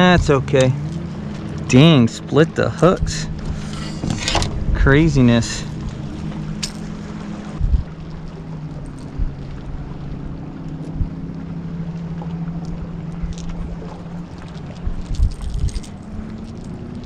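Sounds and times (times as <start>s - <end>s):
boat motor humming: 0.0s - 17.0s
wind bumping microphone: 2.8s - 17.0s.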